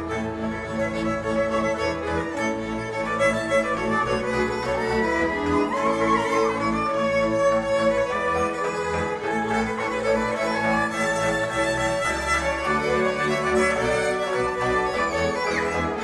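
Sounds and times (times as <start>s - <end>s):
bowed bass: 0.0s - 16.0s
fiddles playing dance tune: 0.0s - 16.0s.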